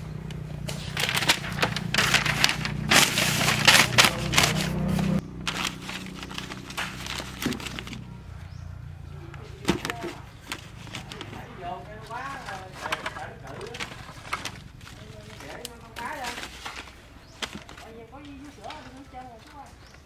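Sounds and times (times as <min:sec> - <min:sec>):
newspaper rustling and crinkling: 0:00.3 - 0:08.1, 0:09.5 - 0:20.0.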